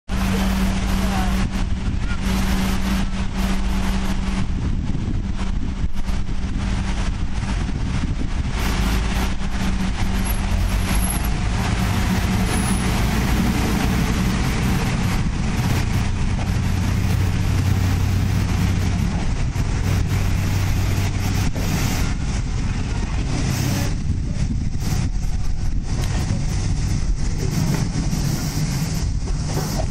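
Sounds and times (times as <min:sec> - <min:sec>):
diesel railcar engine: 0:00.1 - 0:29.9.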